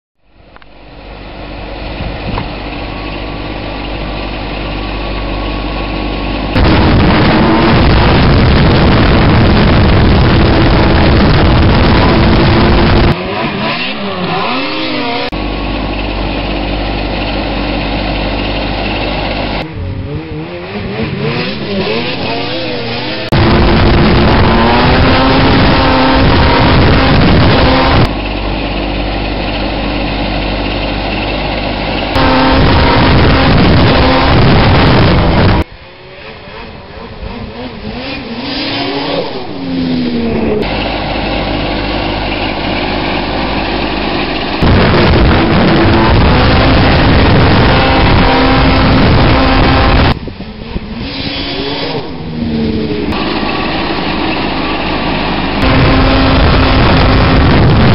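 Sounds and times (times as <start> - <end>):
snow groomer engine running: 0.2 - 57.9
snowmobile engine revving: 2.7 - 57.9.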